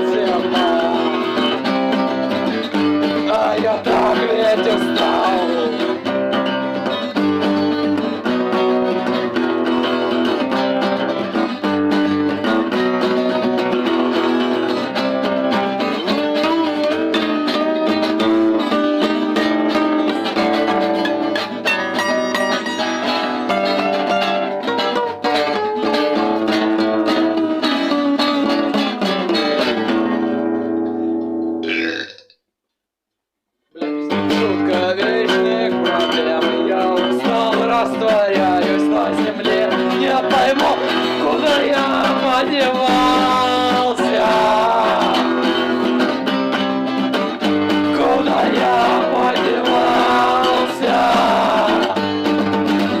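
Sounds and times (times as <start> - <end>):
acoustic guitars strumming: 0.0 - 32.0, 33.8 - 53.0.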